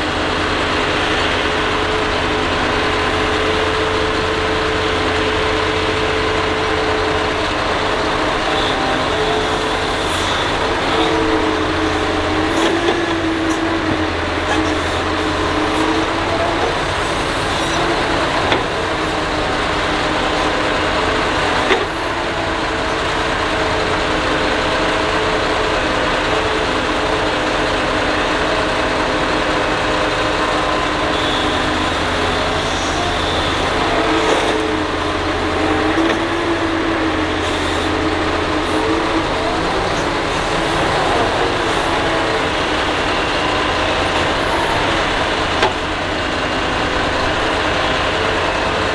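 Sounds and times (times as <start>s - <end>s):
excavator engine and hydraulics: 0.0s - 48.9s.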